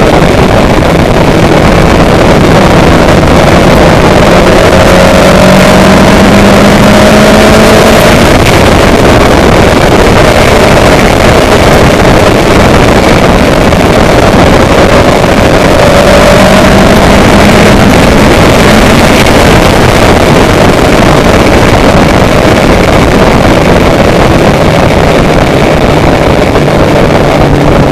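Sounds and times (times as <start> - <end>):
loud steady engine noise: 0.0 - 27.9
wind rushing: 0.0 - 27.9.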